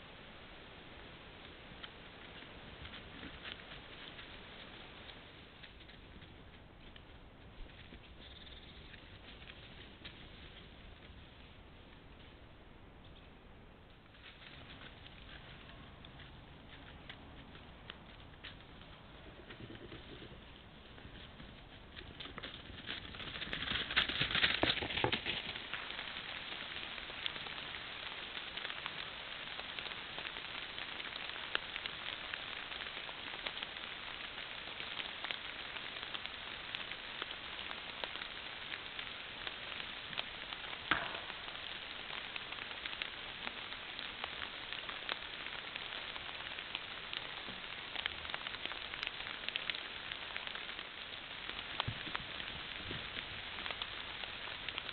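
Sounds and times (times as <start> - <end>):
hooves crackling through dry leaves: 0.0 - 54.9
steady hiss: 0.0 - 54.9.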